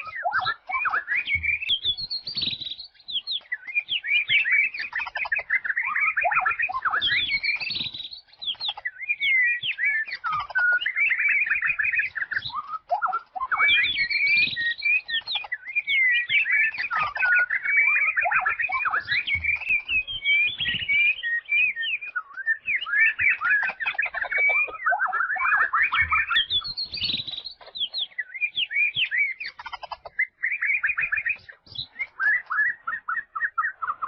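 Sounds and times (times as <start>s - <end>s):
songbird twittering: 0.0s - 34.0s.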